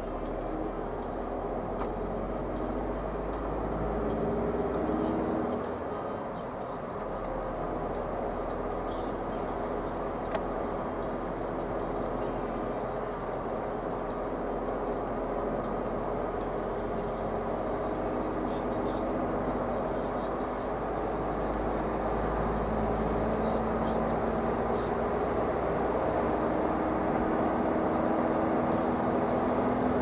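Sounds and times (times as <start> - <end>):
diesel engine running: 0.0 - 30.0
tyre and road noise: 0.0 - 30.0.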